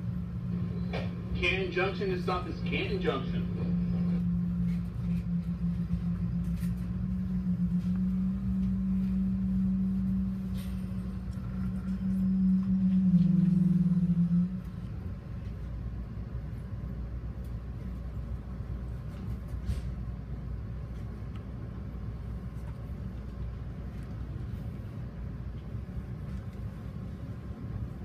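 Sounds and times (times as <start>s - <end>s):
low hum: 0.0s - 28.0s
train running rumble: 0.0s - 28.0s.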